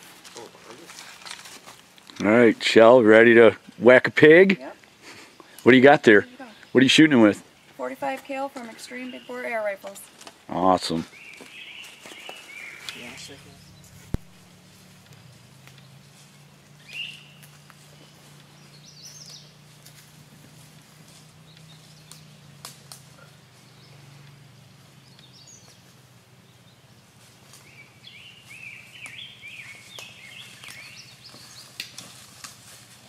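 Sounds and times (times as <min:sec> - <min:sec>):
footsteps on dry leaves: 0:00.0 - 0:02.4, 0:08.6 - 0:33.0
steady low hum: 0:00.0 - 0:33.0
birds chirping and calling: 0:04.6 - 0:32.4.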